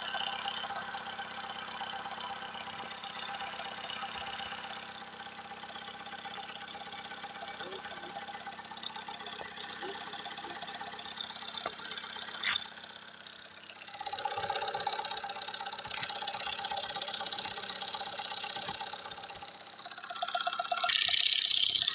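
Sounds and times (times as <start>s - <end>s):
car engine idling with knock: 0.0s - 21.7s.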